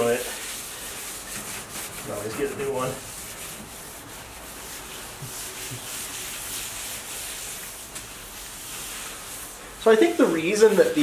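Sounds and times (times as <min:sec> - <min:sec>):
paper towel wiping a table: 0:00.0 - 0:11.0.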